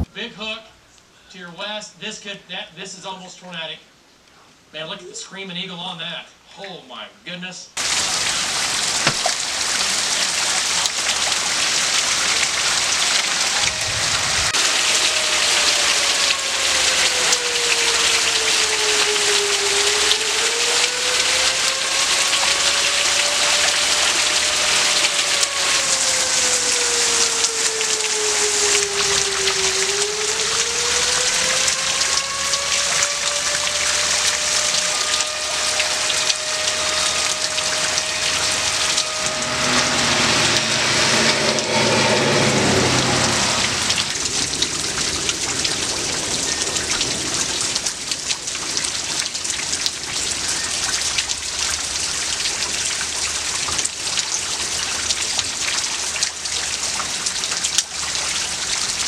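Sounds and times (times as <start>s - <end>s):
heavy rain: 7.8s - 59.0s
warning siren wailing: 7.8s - 59.0s.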